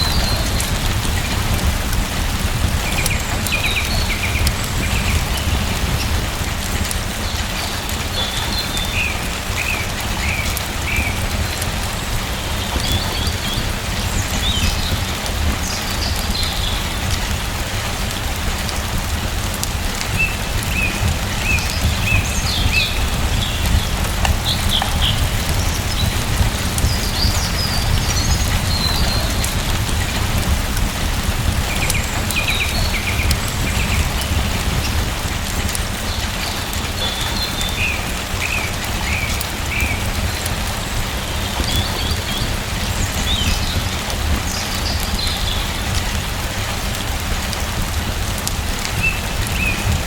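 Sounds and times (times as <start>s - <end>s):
small birds chirping: 0.0s - 46.4s, 48.8s - 50.0s
rain falling: 0.0s - 50.0s.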